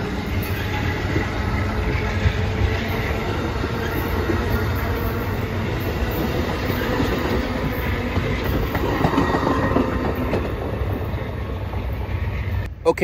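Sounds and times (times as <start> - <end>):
wheels clicking over rail joints: 0.0 - 12.0
train cars rolling past: 0.0 - 12.9.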